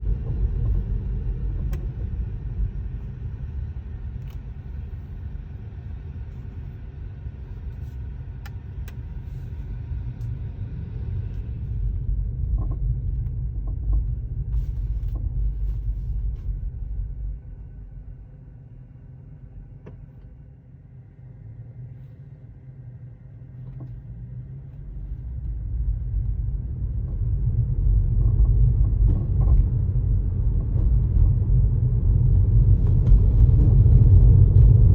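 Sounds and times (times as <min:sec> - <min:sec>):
car rumble while driving: 0:00.0 - 0:34.9.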